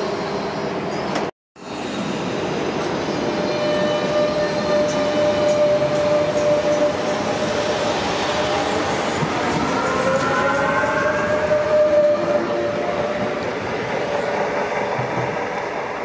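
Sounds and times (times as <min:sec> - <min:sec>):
electric train whining past: 0:00.0 - 0:16.0.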